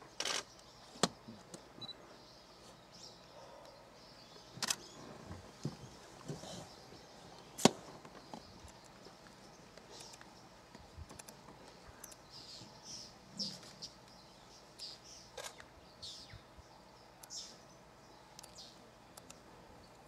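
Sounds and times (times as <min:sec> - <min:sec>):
faint bird chirps: 0:00.1 - 0:20.0.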